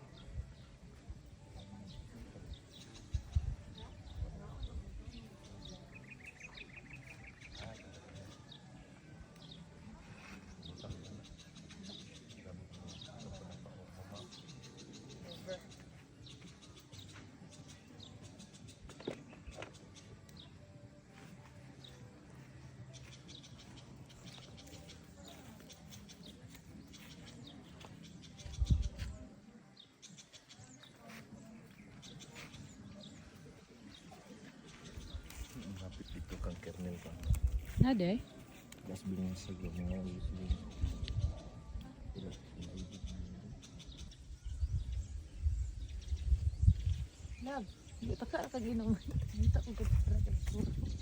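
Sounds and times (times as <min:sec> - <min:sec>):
faint voices: 0:00.0 - 0:51.0
small birds chirping: 0:00.0 - 0:51.0.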